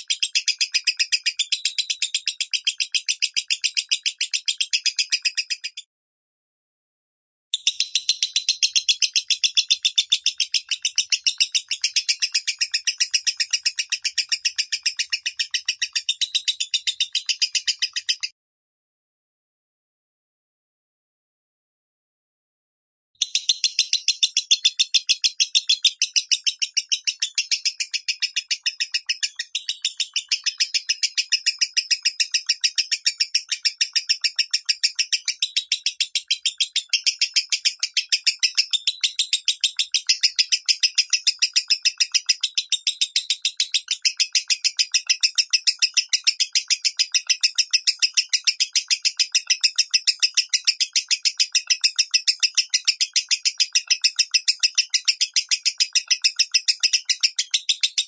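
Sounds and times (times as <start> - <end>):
bird rapid high chirps: 0.0 - 5.9, 7.6 - 18.3, 23.2 - 58.0.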